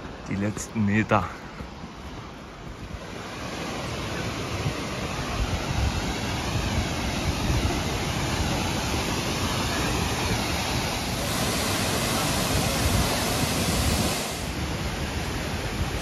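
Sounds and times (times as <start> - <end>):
wind buffeting microphone: 1.6 - 16.0
waterfall rushing: 3.0 - 16.0.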